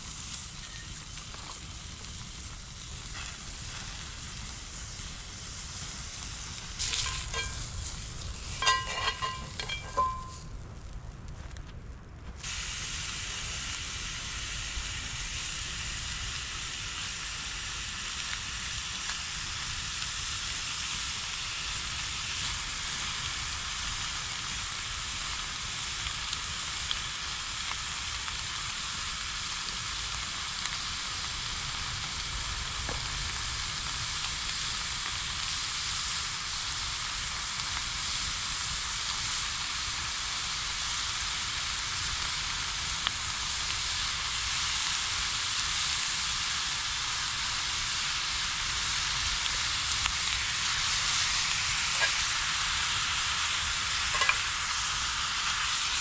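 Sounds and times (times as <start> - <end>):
food sizzling in a pan: 0.0 - 10.5, 12.4 - 56.0
fire pops and crackles: 0.0 - 56.0.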